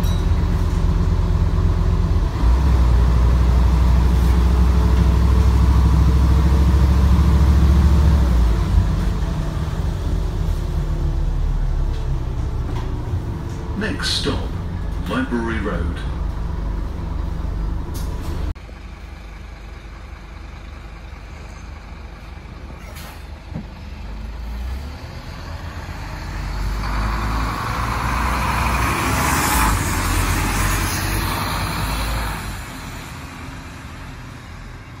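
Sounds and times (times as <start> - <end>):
bus engine low rumble: 0.0 - 35.0.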